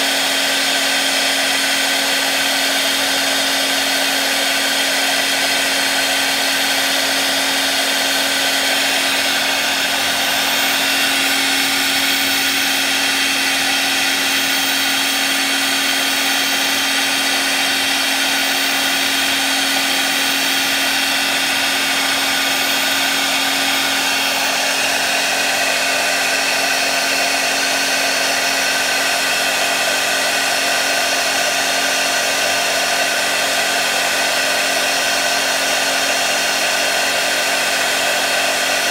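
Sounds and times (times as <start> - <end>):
milling spindle motor whine: 0.0 - 38.9.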